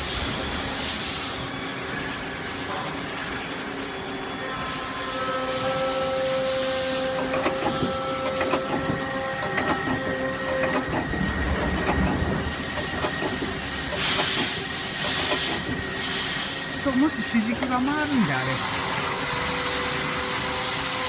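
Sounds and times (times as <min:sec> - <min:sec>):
lathe machine whine: 0:00.0 - 0:21.0.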